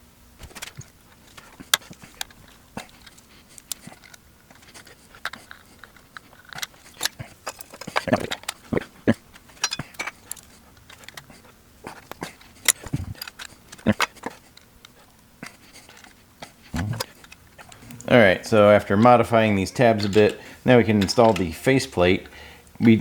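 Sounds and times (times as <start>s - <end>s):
metal tabs clicking: 0.6s - 11.4s, 12.0s - 15.2s, 17.0s - 23.0s.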